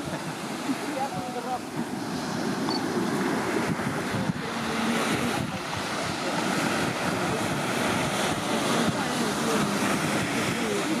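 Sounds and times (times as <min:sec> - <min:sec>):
ocean surf washing on beach: 0:00.0 - 0:11.0
wind on microphone: 0:00.0 - 0:11.0.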